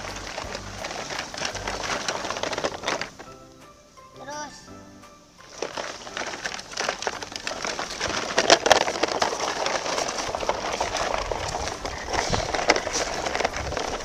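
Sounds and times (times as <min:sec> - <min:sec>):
plastic toy vehicles clattering: 0:00.0 - 0:03.4, 0:05.4 - 0:14.0.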